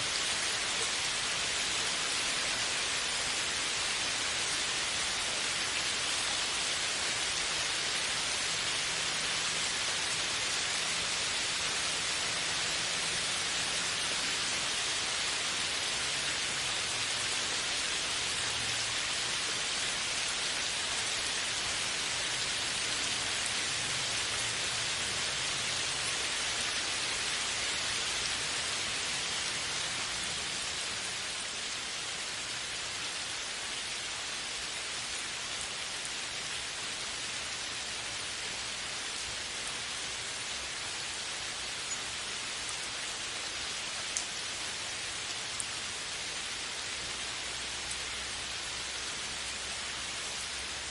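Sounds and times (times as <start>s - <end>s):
dense rainfall: 0.0s - 50.9s.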